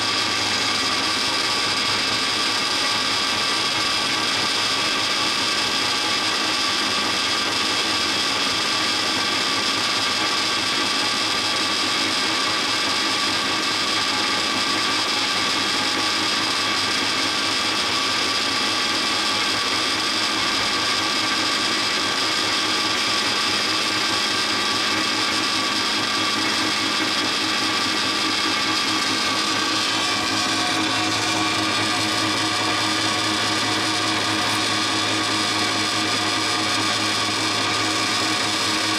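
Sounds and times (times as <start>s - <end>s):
band saw whining: 0.0s - 38.9s.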